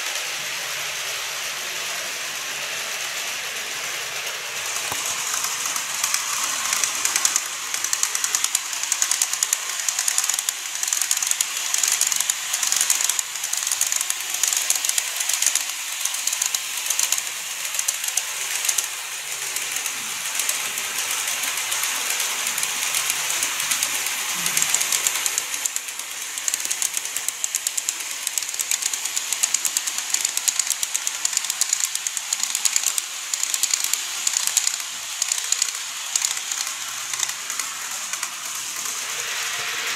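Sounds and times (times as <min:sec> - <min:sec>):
model train wheels clicking: 0:00.0 - 0:39.9
steady high hiss: 0:00.0 - 0:39.9.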